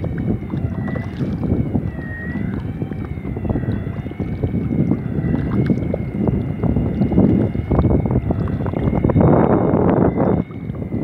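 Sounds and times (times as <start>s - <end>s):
water splashing along a hull: 0.0s - 11.0s
wind buffeting the microphone: 0.0s - 11.0s.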